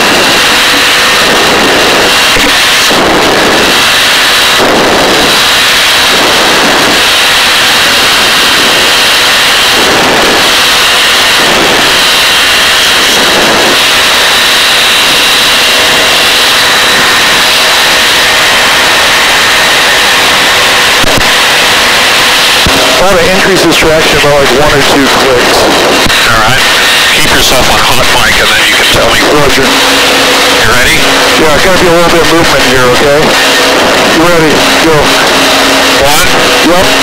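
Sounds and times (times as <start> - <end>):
helicopter turbine and rotor noise: 0.0 - 37.0.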